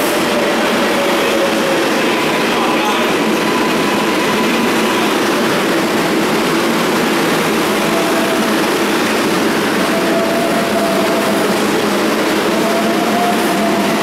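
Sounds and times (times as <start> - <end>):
subway train rumbling on rails: 0.0 - 14.0.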